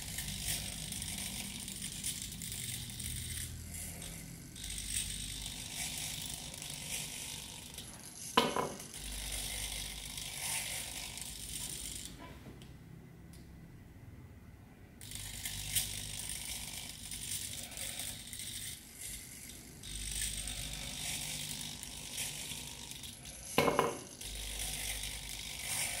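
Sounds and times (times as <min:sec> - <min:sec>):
servos whirring: 0:00.0 - 0:12.2, 0:15.0 - 0:26.0.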